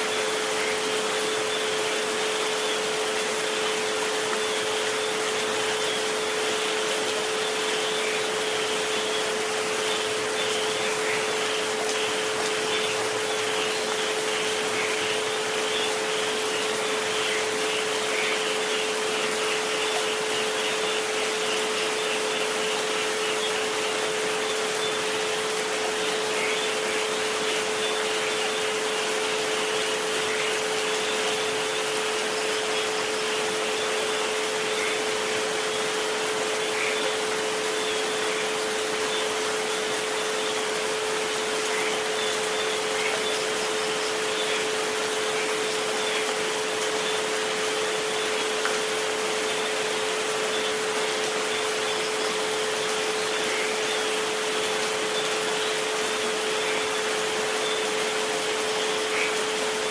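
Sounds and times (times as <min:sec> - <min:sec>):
rain: 0:00.0 - 0:59.9.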